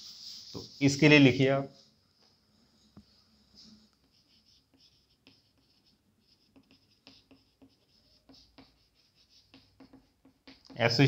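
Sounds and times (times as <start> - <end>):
chalk scratching on chalkboard: 0.0 - 11.0.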